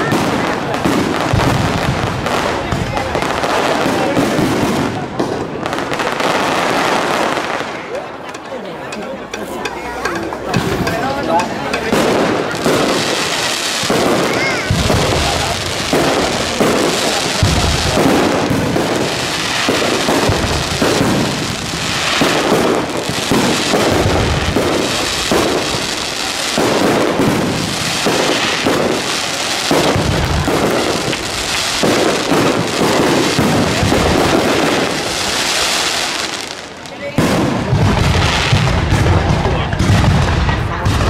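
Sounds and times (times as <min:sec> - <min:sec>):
fireworks launching and bursting: 0:00.0 - 0:08.5, 0:09.2 - 0:41.0.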